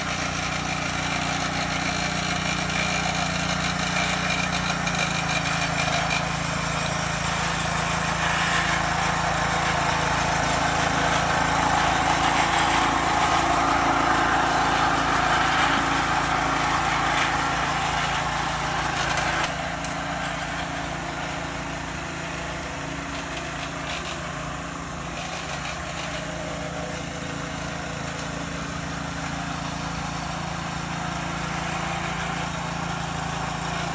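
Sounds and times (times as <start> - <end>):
brush cutter engine running: 0.0 - 33.9.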